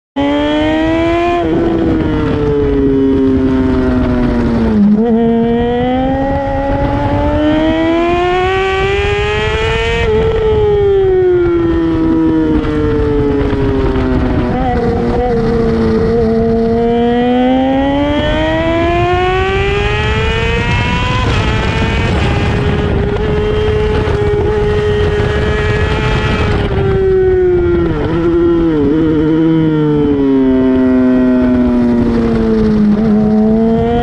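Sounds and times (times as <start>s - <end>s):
motorcycle engine revving: 0.2s - 34.0s.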